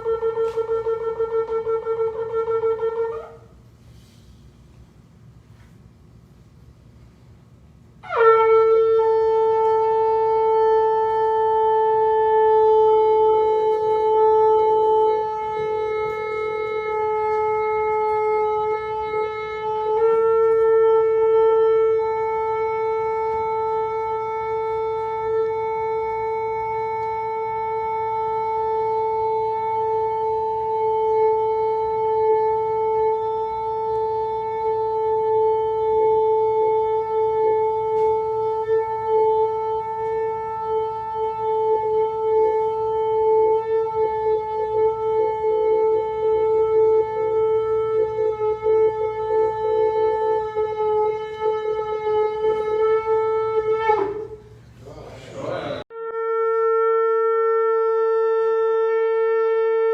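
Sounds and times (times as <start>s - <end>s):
ram's horn long held note: 0.0s - 4.3s, 8.0s - 59.9s.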